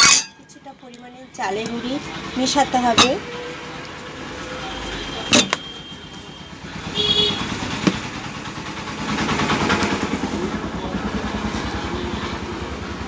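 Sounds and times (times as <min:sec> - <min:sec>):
engine idling: 0:01.1 - 0:13.0.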